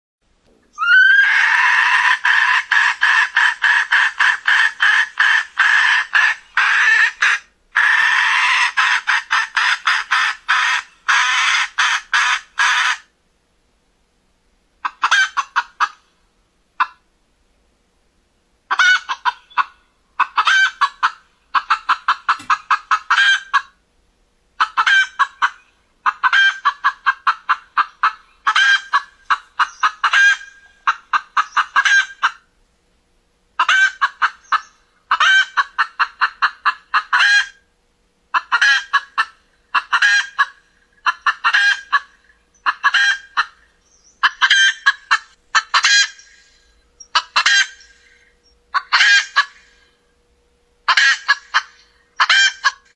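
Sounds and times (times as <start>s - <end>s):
hen clucking: 0.7s - 13.1s, 14.8s - 16.1s, 16.8s - 17.0s, 18.7s - 23.8s, 24.6s - 32.5s, 33.6s - 37.6s, 38.3s - 50.0s, 50.8s - 52.9s.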